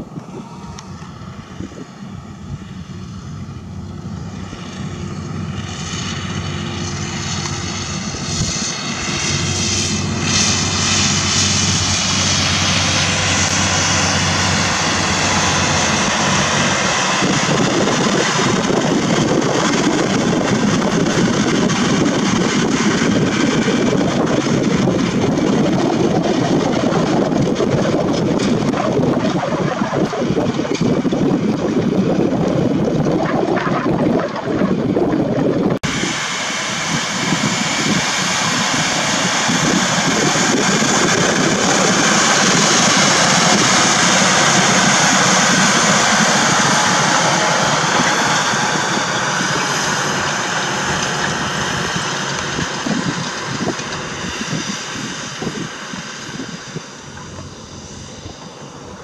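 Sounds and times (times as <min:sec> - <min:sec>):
wind on microphone: 0:00.0 - 0:04.9, 0:07.0 - 0:59.0
steady high whine: 0:00.0 - 0:59.0
tractor diesel engine under load: 0:00.0 - 0:59.0.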